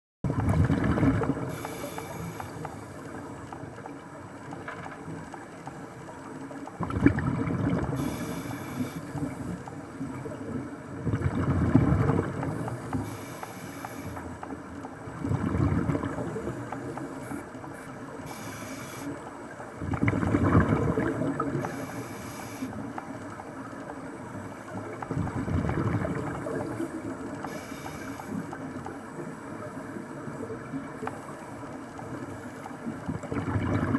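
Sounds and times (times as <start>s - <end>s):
exhaled bubbles rumbling underwater: 0.2s - 33.9s.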